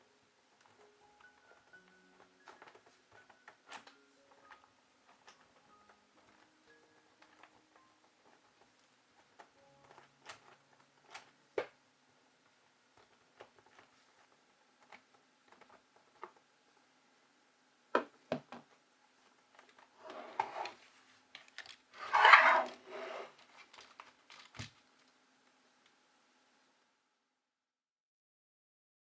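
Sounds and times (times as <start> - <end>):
rustling and crinkling: 0.4 - 16.8, 18.5 - 26.0.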